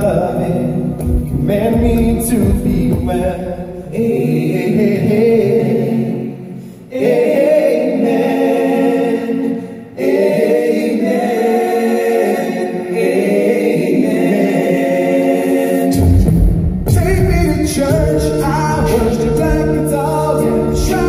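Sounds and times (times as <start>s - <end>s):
male vocal group singing chords: 0.0s - 21.0s.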